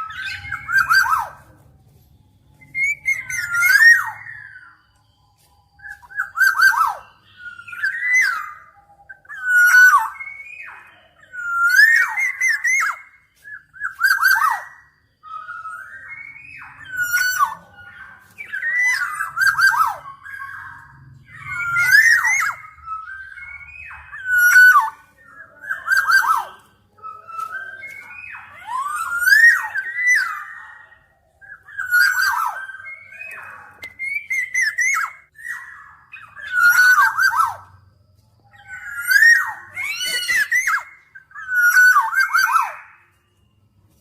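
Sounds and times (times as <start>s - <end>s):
bird fluty whistled calls: 0.0s - 44.0s.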